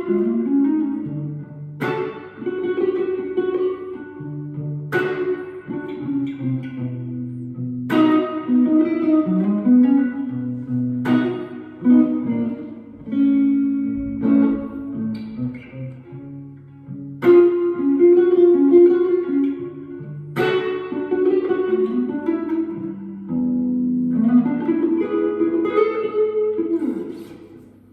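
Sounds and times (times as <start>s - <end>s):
electric guitar single-note lines: 0.0s - 27.9s
overdriven electric guitar chords: 0.0s - 27.9s.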